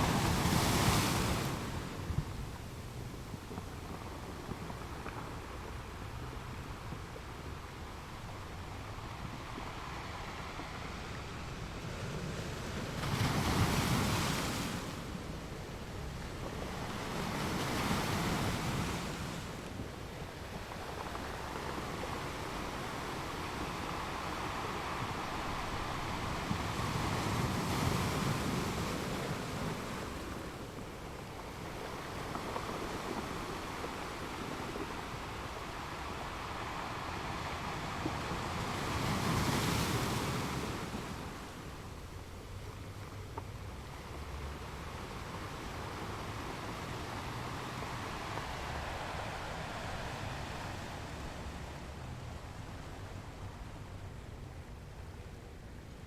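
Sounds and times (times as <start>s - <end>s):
sea waves surf hiss: 0.0s - 56.0s.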